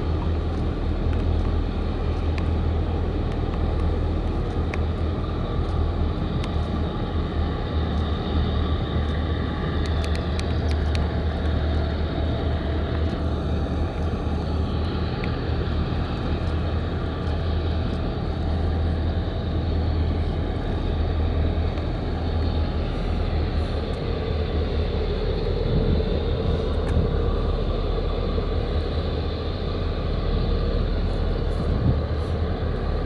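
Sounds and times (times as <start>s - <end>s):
boat engine rumble: 0.0s - 33.0s
water noise: 0.0s - 33.0s
wind: 0.0s - 33.0s.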